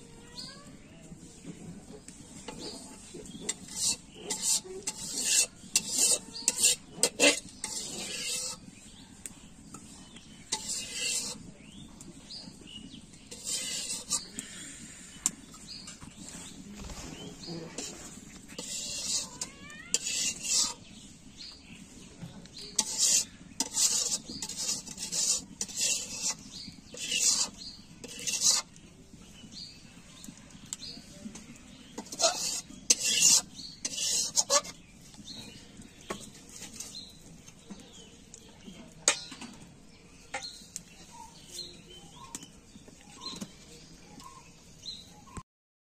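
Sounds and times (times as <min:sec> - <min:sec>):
metal spatula scraping bowl: 0:01.4 - 0:39.6, 0:40.2 - 0:43.6.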